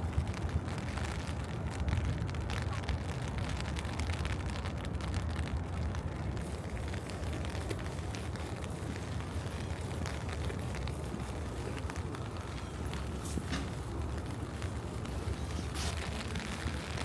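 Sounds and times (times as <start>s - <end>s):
low rumble of traffic: 0.0s - 17.0s
rain pattering: 0.0s - 17.0s.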